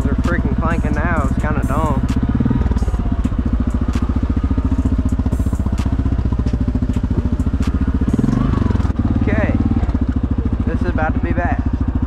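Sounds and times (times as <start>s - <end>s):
engine running slowly: 0.0s - 12.0s.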